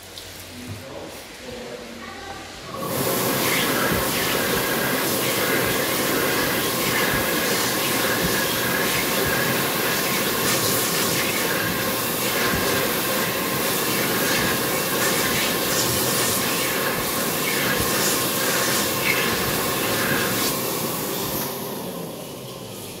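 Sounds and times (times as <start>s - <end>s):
hand dryer running: 2.4s - 23.0s.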